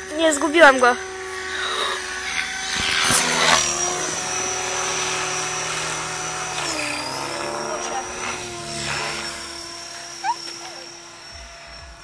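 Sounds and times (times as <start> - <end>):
high motor whine: 0.0 - 12.0
model helicopter rotor whirring: 0.0 - 12.0.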